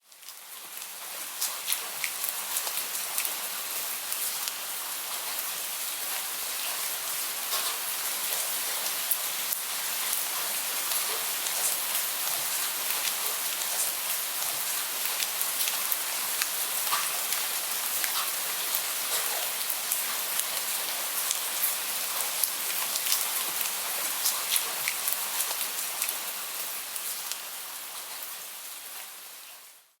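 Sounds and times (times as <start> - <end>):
rain hiss: 0.0 - 30.0.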